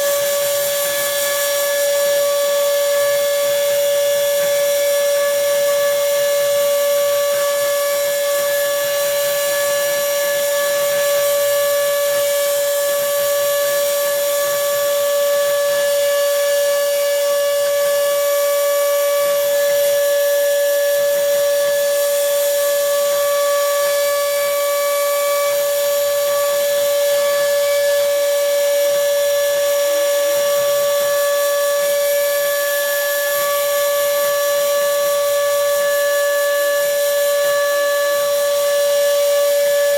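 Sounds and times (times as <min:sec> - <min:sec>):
router cutting hiss: 0:00.0 - 0:39.9
spindle motor whine: 0:00.0 - 0:39.9.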